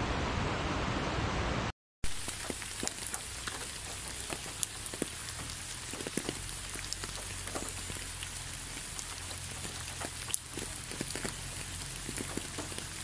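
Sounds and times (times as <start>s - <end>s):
steady rain hiss: 0.0s - 13.0s
raindrops tapping: 2.0s - 13.0s.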